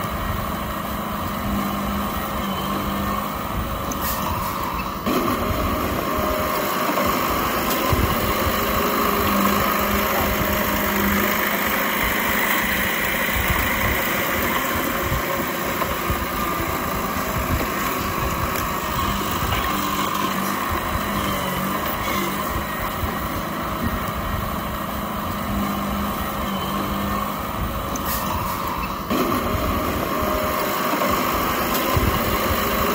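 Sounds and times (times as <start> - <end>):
bulldozer diesel engine running: 0.0 - 32.9.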